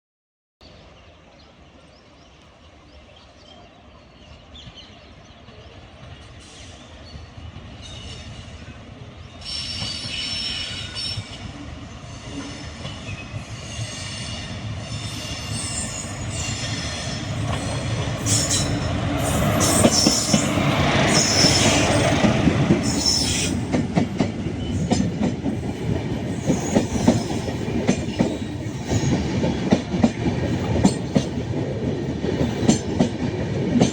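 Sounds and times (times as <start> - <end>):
passenger train passing: 0.6 - 33.9.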